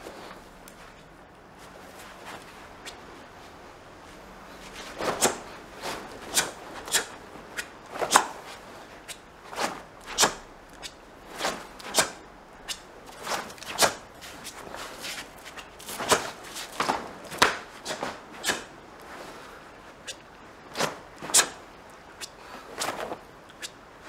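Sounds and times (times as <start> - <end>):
fabric swishing with strikes: 0.0 - 21.6.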